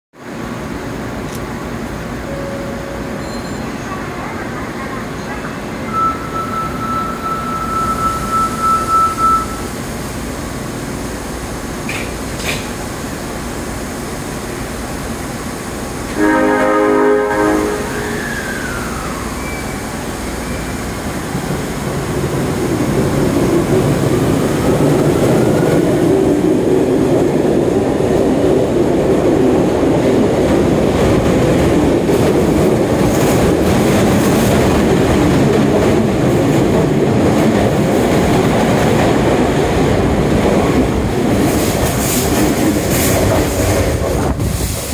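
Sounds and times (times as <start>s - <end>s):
train wheels rumbling on rail: 0.2s - 44.9s.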